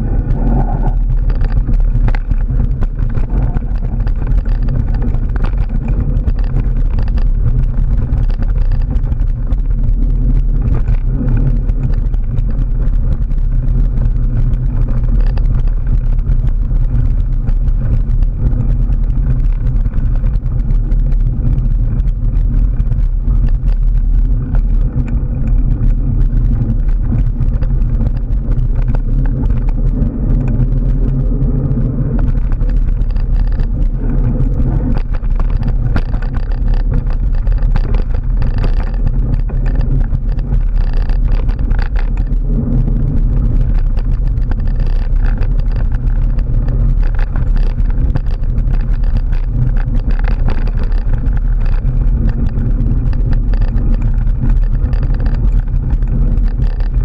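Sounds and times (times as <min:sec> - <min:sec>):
gravel and bike rattles: 0:00.0 - 0:57.0
wind and tyre rumble: 0:00.0 - 0:57.0.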